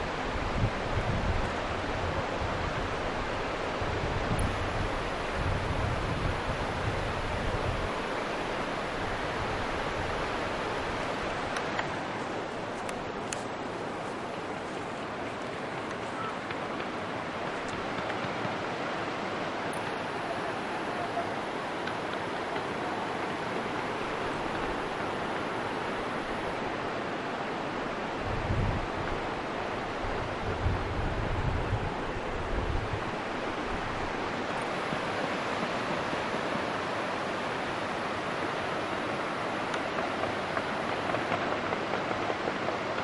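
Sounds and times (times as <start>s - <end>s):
wind buffeting microphone: 0.0s - 19.2s, 21.3s - 43.0s.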